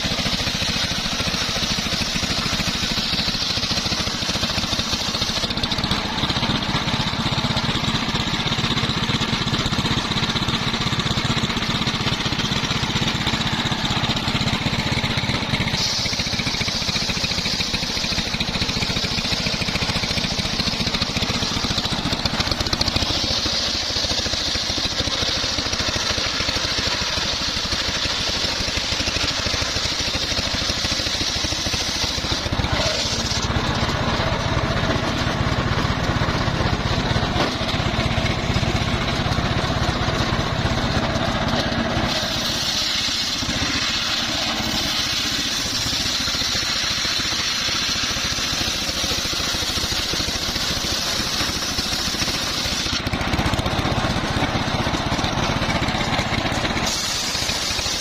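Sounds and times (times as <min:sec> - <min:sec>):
engine-driven sawmill ripping log: 0:00.0 - 0:58.0
saw blade whine: 0:00.0 - 0:58.0.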